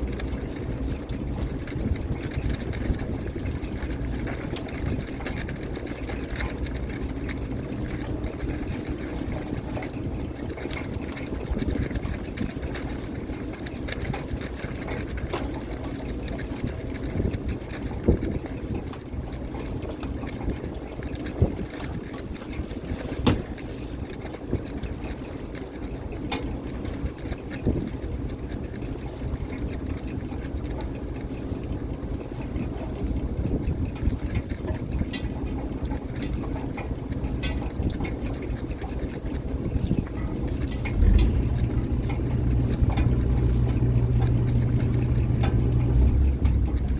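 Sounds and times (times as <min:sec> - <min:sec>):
boat engine running: 0:00.0 - 0:46.9
water splashing and sloshing: 0:00.0 - 0:46.9.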